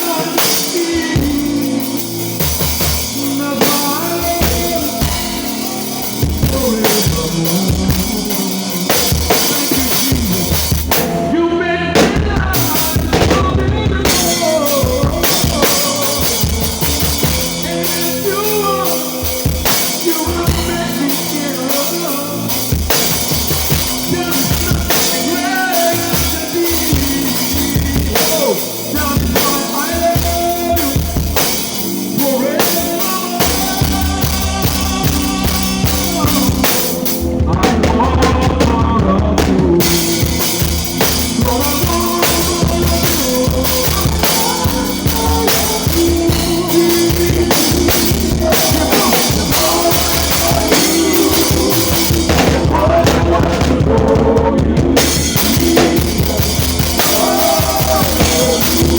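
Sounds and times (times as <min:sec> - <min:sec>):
cymbals: 0:00.0 - 0:37.3, 0:39.8 - 0:53.8, 0:55.0 - 0:58.9
drum kit with rimshots: 0:00.0 - 0:58.9
live worship band playing: 0:00.0 - 0:58.9.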